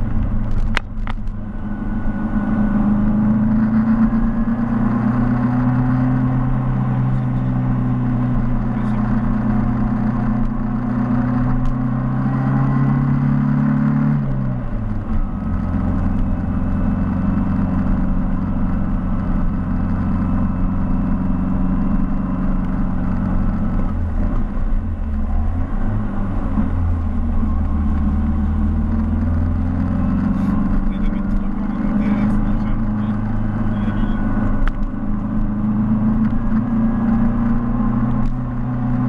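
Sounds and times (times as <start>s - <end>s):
car engine running: 0.0s - 39.0s.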